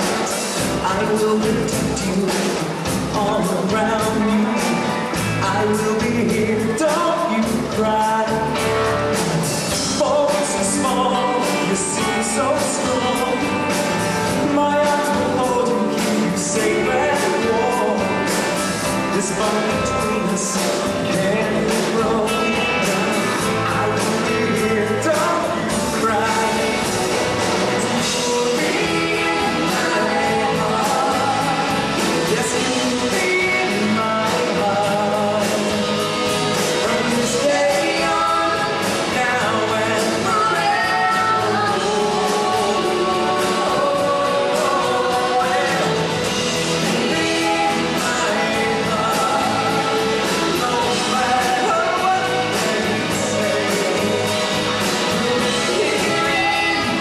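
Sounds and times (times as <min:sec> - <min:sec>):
people singing: 0:00.0 - 0:57.0
pop-rock band playing: 0:00.0 - 0:57.0.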